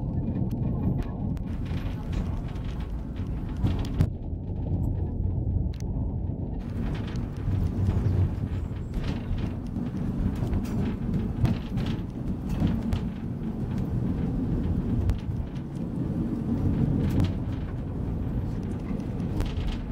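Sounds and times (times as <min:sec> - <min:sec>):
wheels clicking over rail joints: 0:00.0 - 0:05.3, 0:06.6 - 0:19.9
train rumbling: 0:00.0 - 0:19.9.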